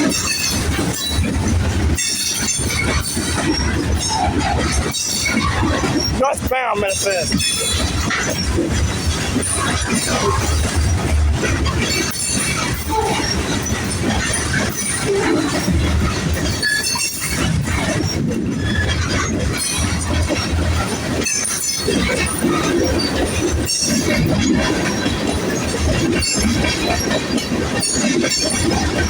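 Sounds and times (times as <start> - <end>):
train wheels rolling on rail: 0.0 - 29.0.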